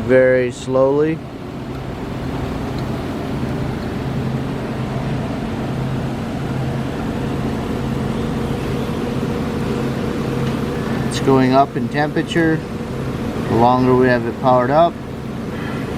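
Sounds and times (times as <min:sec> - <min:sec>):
cooling fans whirring: 0:00.0 - 0:15.9
low electrical hum: 0:00.0 - 0:15.9.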